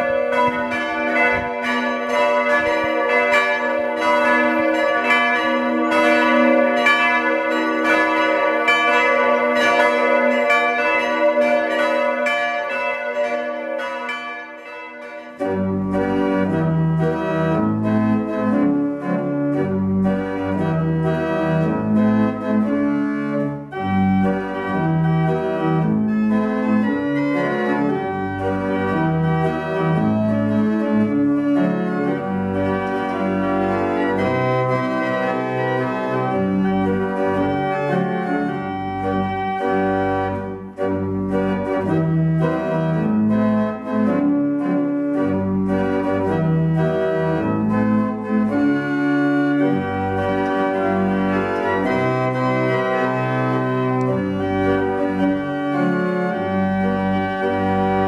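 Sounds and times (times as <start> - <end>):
church bells ringing: 0.0 - 58.0
pipe organ playing: 0.0 - 58.0.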